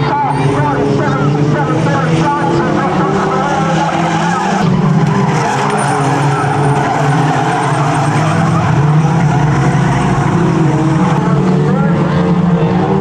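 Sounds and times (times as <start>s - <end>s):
race car engines revving: 0.0s - 13.0s
tyres skidding on shale: 0.0s - 13.0s.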